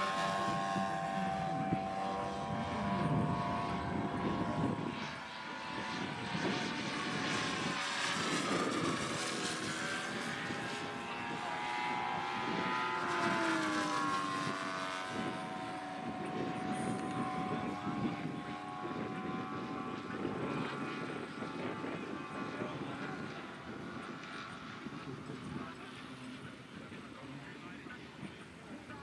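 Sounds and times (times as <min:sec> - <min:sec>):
model aeroplane engines overhead: 0:00.0 - 0:29.0.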